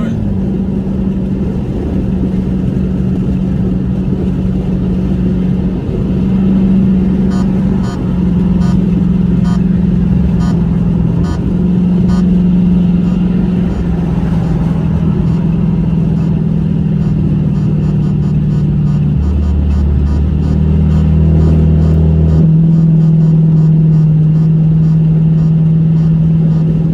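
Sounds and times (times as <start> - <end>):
car engine running at low revs: 0.0 - 26.9.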